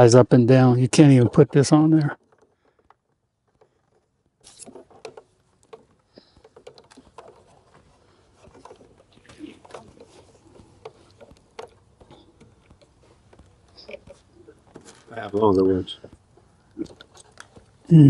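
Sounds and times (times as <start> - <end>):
cable handling clicks and rustles: 1.0 - 17.9.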